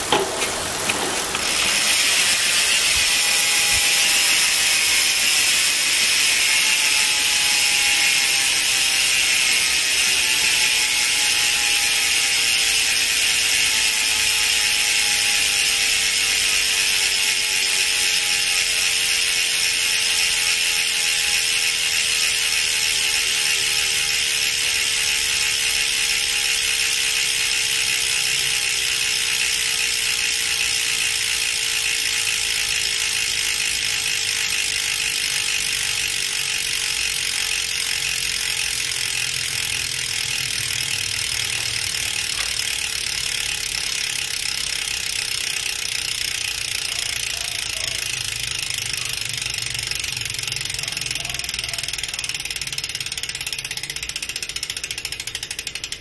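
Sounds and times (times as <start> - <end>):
bicycle freehub ratcheting: 0.0 - 56.0.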